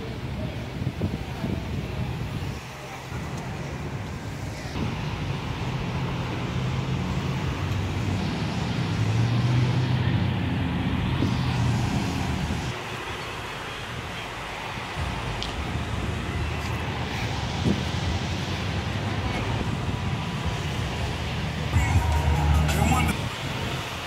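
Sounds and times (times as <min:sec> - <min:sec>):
road traffic noise: 0:00.0 - 0:24.0
vehicle engine humming: 0:01.8 - 0:24.0.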